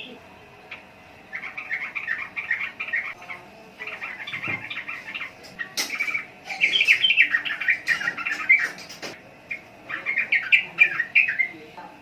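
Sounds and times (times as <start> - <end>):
bulbul chirping song: 0.0 - 11.6.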